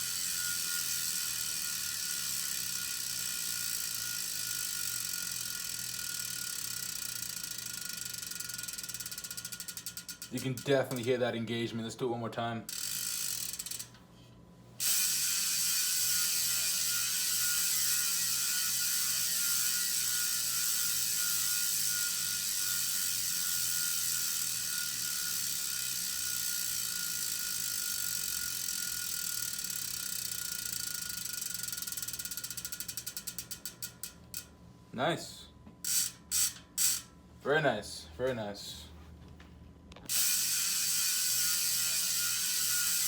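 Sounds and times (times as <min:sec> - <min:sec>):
bicycle hub ratcheting buzz: 0:00.0 - 0:11.3, 0:12.6 - 0:14.0, 0:14.8 - 0:34.6, 0:35.8 - 0:37.2, 0:40.0 - 0:43.0.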